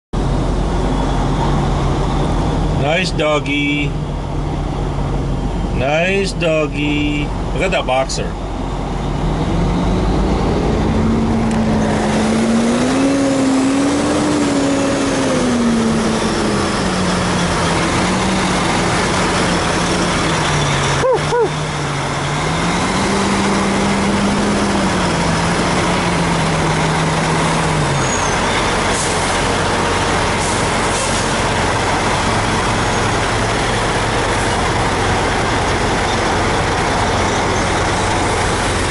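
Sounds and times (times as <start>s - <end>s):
diesel engine drone: 0.2s - 38.9s
road and wind noise: 0.2s - 38.9s.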